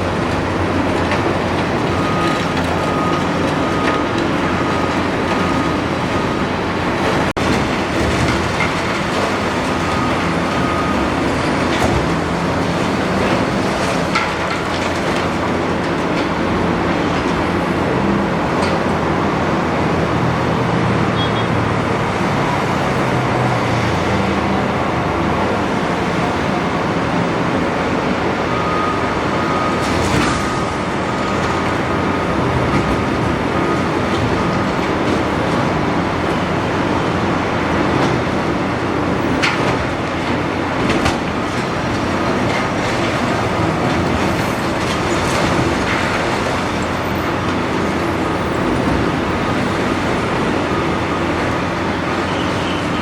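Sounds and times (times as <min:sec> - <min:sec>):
excavator engine and hydraulics: 0:00.0 - 0:53.0.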